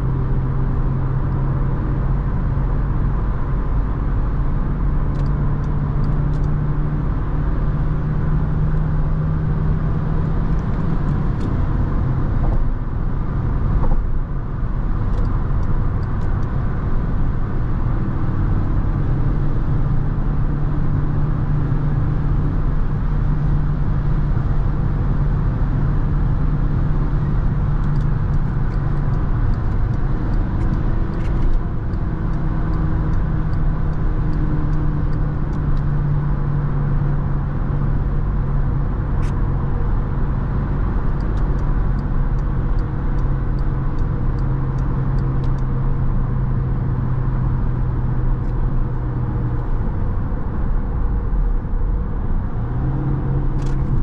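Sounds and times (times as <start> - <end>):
car engine drone: 0.0 - 54.0
tyre and road noise: 0.0 - 54.0.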